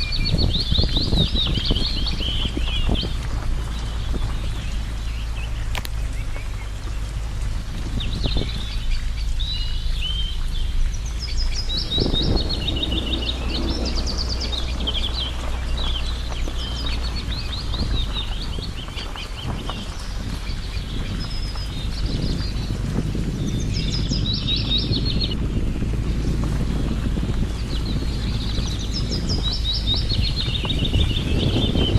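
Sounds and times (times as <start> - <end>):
songbirds chirping and trilling: 0.0 - 31.9
steady low rumble: 0.0 - 31.9.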